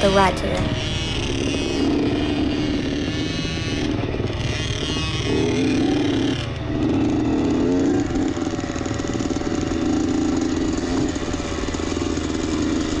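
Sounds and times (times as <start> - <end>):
two-stroke engine running: 0.0 - 13.0.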